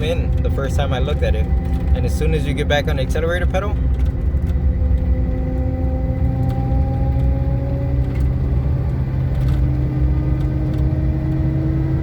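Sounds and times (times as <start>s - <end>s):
differential whining: 0.0s - 12.0s
truck driving rumble: 0.0s - 12.0s.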